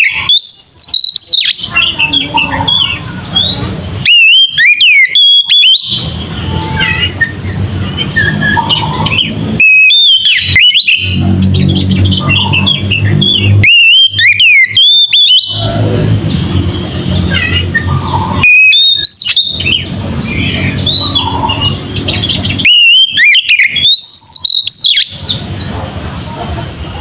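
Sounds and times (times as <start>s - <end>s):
bird singing whistled phrases: 0.0s - 25.7s
faint bird chirping: 0.0s - 27.0s.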